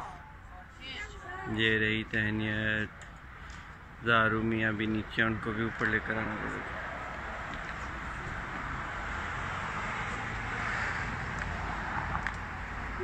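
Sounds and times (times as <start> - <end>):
distant traffic hiss: 0.8 - 13.0.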